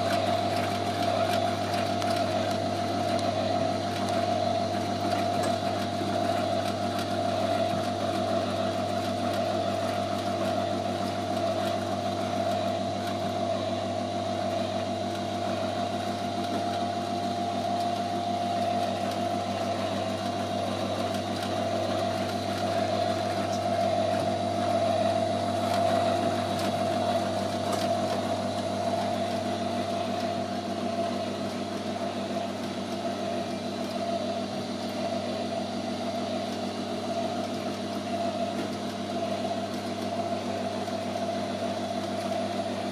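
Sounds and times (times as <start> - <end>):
electric motor humming: 0.0 - 42.9.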